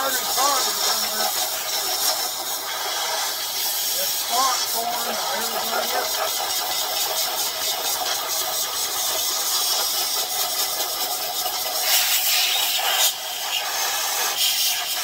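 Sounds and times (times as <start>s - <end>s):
compressed air hissing: 0.0s - 15.0s
small engine running: 0.0s - 15.0s.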